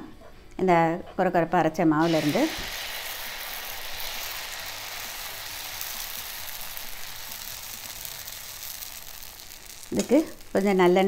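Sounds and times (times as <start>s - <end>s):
batter sizzling on griddle: 2.0s - 11.0s.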